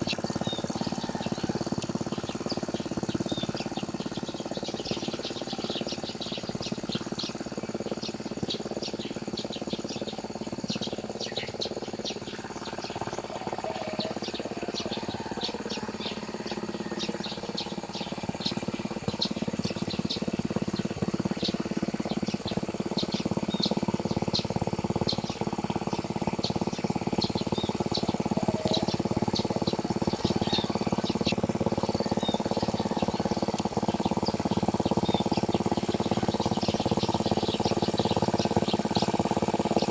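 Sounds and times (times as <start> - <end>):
birds chirping: 0.0 - 39.9
tractor engine running: 0.0 - 39.9.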